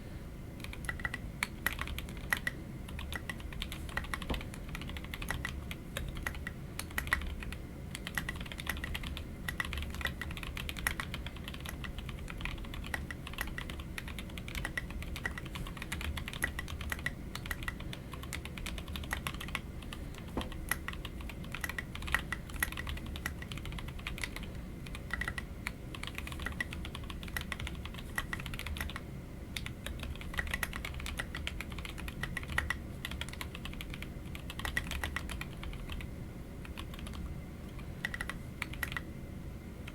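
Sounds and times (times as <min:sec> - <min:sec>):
mechanical keyboard typing: 0:00.6 - 0:29.0, 0:29.6 - 0:37.2, 0:38.0 - 0:39.0.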